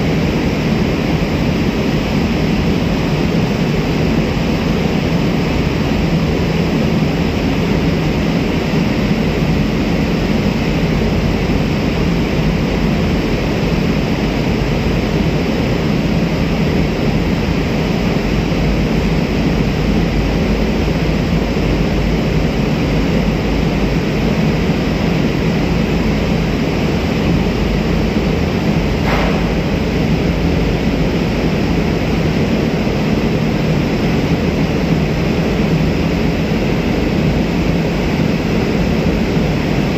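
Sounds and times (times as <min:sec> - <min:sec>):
ship engine drone: 0:00.0 - 0:39.9.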